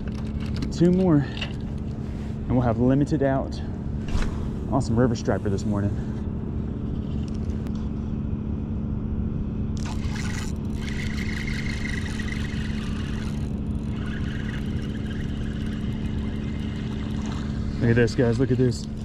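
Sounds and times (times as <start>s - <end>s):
low mechanical hum: 0.0s - 19.0s
faint higher whine: 0.1s - 19.0s.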